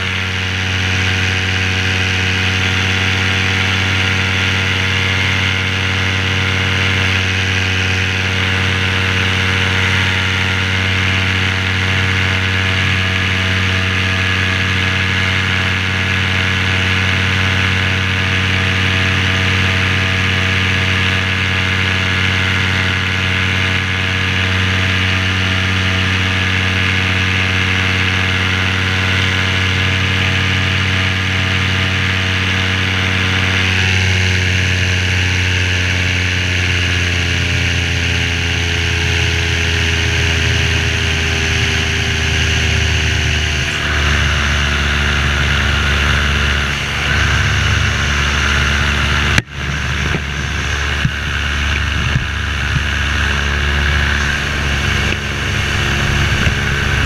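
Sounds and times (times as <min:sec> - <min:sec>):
paramotor engine and propeller running: 0:00.0 - 0:57.0.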